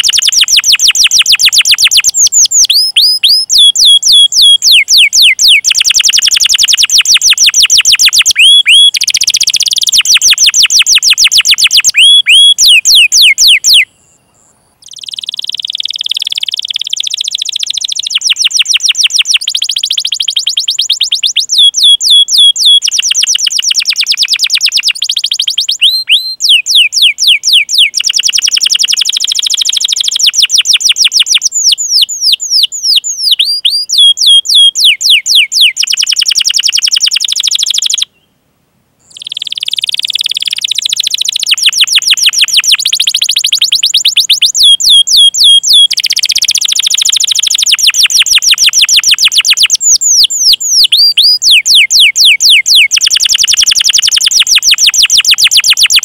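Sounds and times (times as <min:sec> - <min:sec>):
canary singing rolling song: 0:00.0 - 0:38.4, 0:39.0 - 0:56.0.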